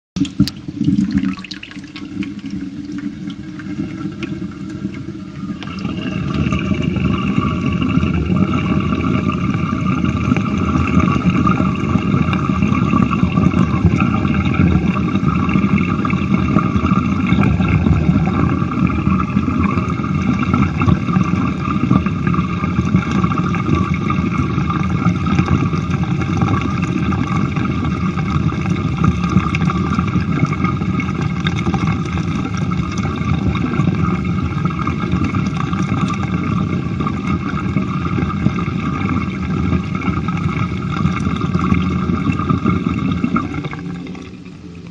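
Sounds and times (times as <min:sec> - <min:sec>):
water gurgling down sink drain: 0:00.2 - 0:44.9.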